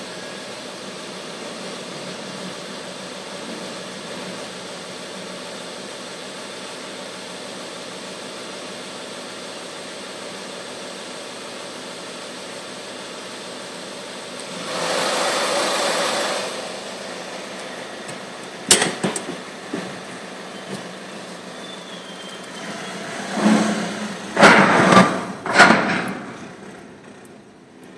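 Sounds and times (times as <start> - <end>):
car lift humming: 0.0 - 27.9.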